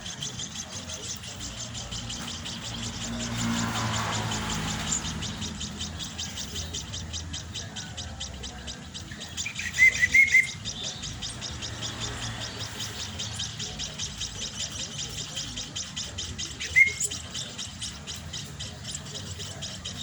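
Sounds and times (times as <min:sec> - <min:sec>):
baby birds cheeping: 0:00.0 - 0:20.0.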